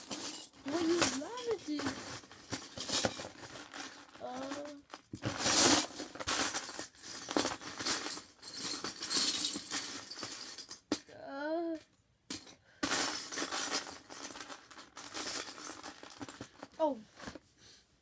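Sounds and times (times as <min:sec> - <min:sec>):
plastic bricks rattling in bin: 0:00.0 - 0:11.0, 0:12.3 - 0:17.4.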